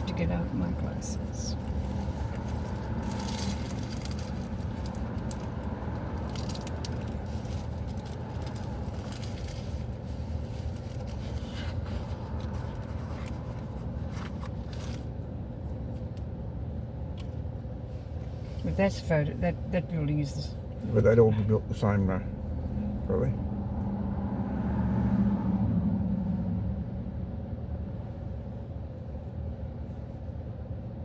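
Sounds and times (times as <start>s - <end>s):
vehicle cabin hum: 0.0s - 31.0s.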